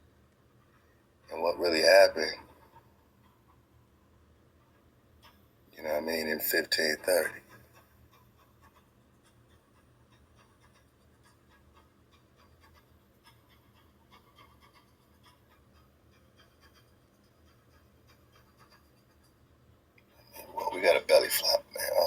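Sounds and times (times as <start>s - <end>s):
light ticks and scratches: 0.0s - 22.0s.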